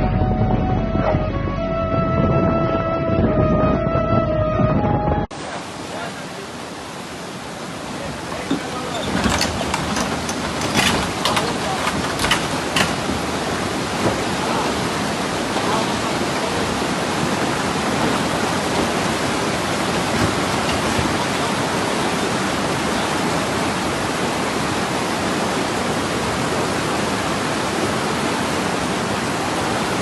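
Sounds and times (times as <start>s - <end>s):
floodwater rushing: 5.3s - 30.0s.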